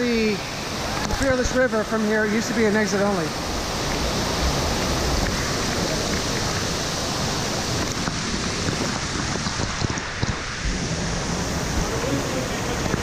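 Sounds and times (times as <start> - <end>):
rushing churning water: 0.0 - 13.0
water splashes: 0.0 - 13.0.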